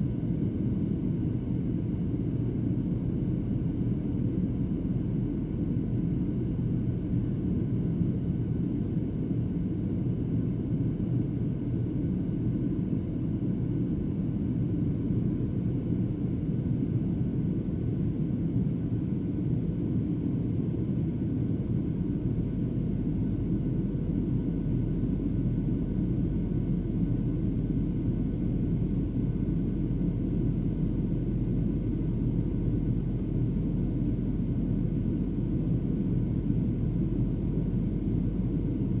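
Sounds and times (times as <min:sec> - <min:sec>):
airliner cabin drone: 0:00.0 - 0:39.0.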